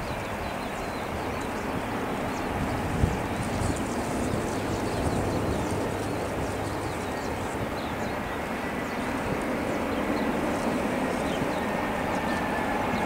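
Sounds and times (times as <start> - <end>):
jet engines rushing at takeoff: 0.0 - 13.0.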